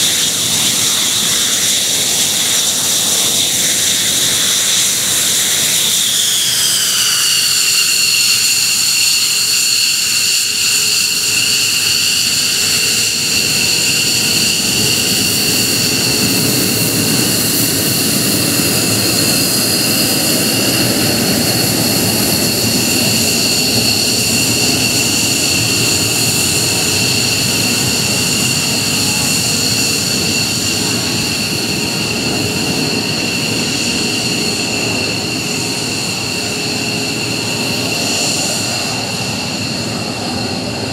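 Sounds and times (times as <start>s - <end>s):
jet engine whine: 0.0s - 40.9s
jet exhaust rushing: 0.0s - 40.9s.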